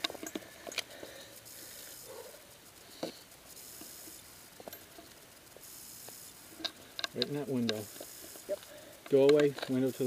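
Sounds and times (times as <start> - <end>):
light hiss: 0.0 - 10.0
scattered clicks: 0.0 - 10.0.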